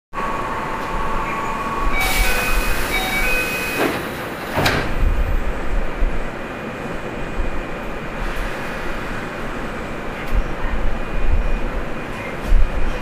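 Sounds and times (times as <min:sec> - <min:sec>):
train doors closing with air burst: 0:00.3 - 0:13.0.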